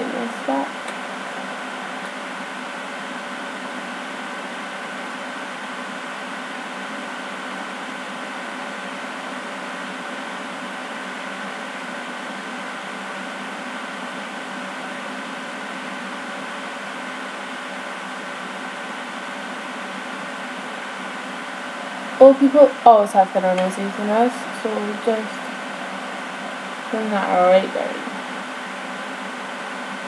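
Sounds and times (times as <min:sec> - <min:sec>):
background hum and hiss: 0:00.0 - 0:30.0
faint constant tones: 0:00.0 - 0:30.0.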